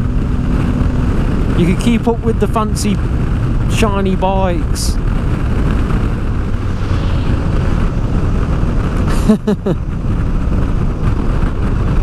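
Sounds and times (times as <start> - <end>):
motorcycle engine at speed: 0.0 - 12.0
wind noise: 0.0 - 12.0.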